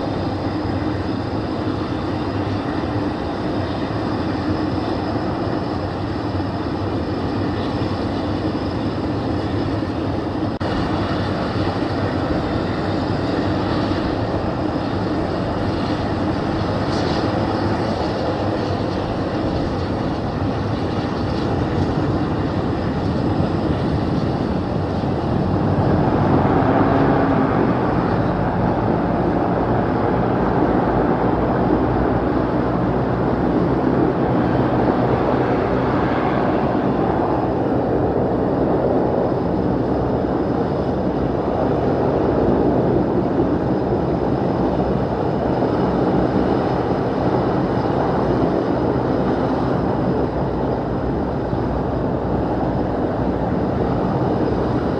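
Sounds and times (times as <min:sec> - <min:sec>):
turboprop engines droning: 0:00.0 - 0:54.9.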